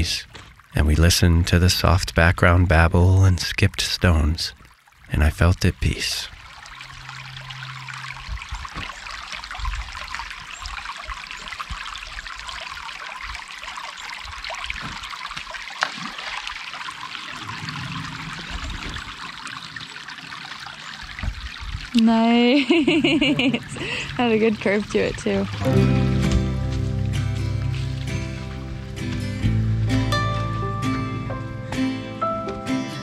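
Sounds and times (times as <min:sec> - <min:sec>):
brook babbling over stones: 0:00.0 - 0:29.0.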